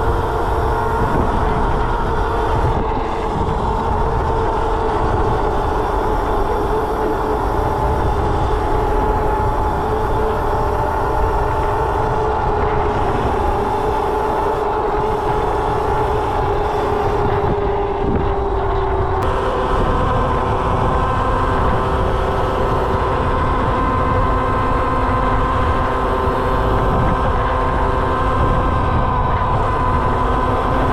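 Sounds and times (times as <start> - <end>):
electric motor whining: 0.0 - 30.9
wind rumbling on microphone: 0.0 - 30.9.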